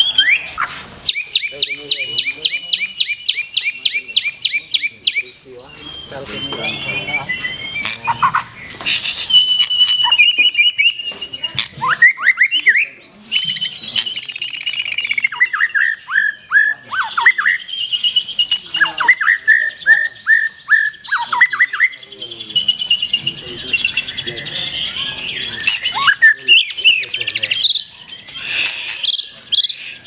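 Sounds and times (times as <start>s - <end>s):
bird singing whistles and chirps: 0.0s - 30.0s.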